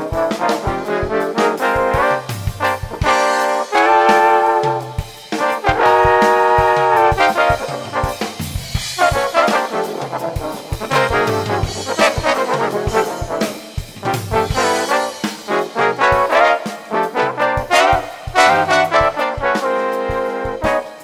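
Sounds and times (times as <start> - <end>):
bass: 0.0 - 16.5, 17.2 - 19.4
drums: 0.0 - 21.0
jazz trombone: 0.0 - 21.0.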